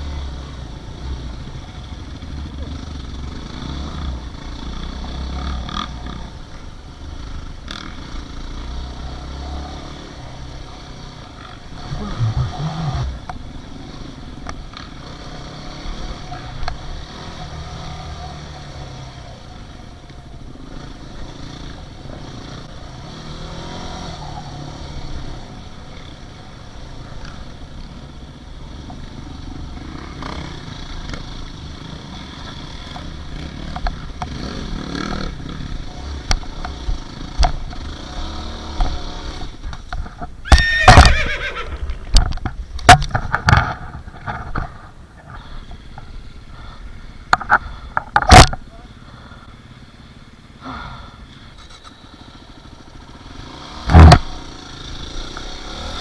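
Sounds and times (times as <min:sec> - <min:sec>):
dirt bike engines revving: 0:00.0 - 0:39.9, 0:40.5 - 0:56.0.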